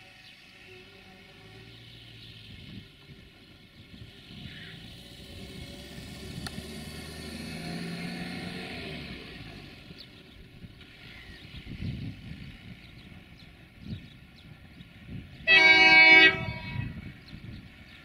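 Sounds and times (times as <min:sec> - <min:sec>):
diesel locomotive engine: 0:00.0 - 0:18.0.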